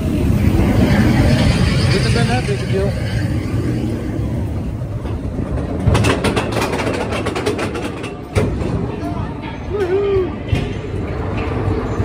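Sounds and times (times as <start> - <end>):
coaster car rumbling on track: 0.0 - 12.0.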